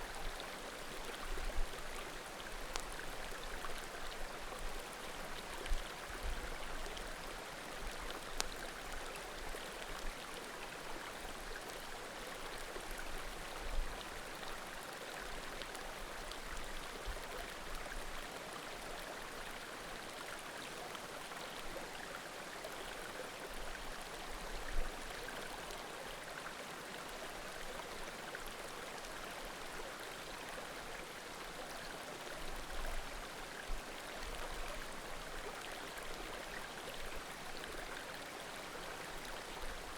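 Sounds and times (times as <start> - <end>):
creek flowing: 0.0 - 39.9.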